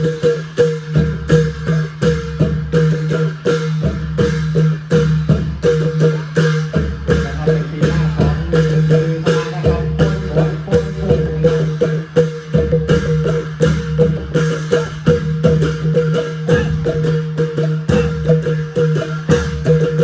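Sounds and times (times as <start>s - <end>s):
quick drum strokes: 0.0s - 20.0s.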